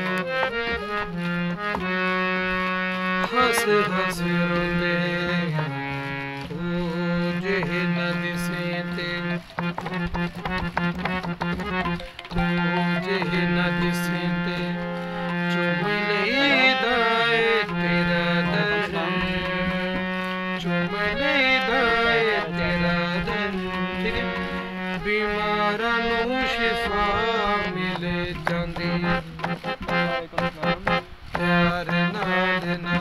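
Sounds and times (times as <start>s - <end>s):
harmonium melody: 0.0s - 33.0s.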